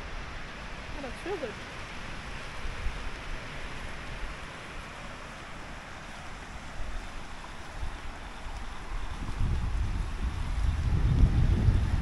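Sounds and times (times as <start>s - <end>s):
river flowing: 0.0s - 12.0s
wind buffeting microphone: 0.0s - 12.0s.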